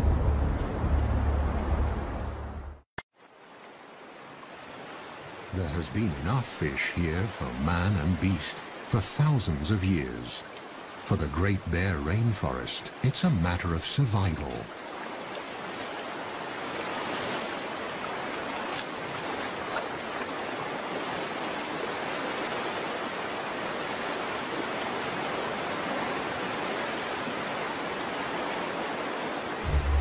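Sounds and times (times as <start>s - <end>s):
stream water rushing over rocks: 3.2s - 30.0s.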